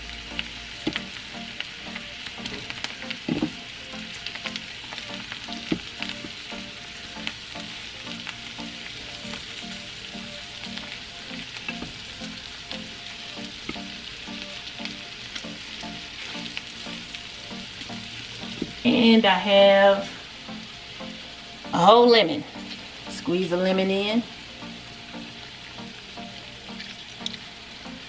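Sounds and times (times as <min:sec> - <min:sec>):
fish sizzling in frying pan: 0:00.0 - 0:28.0
soft background music: 0:00.0 - 0:28.0.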